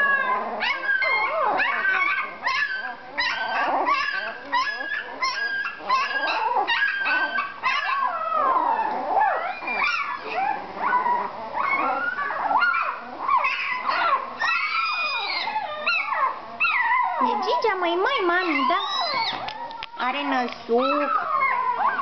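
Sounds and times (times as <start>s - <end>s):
puppies whining and yelping: 0.0s - 22.0s.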